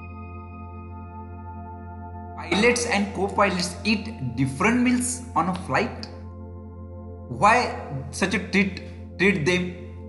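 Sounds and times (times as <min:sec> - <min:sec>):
held ringing chord: 0:00.0 - 0:10.0.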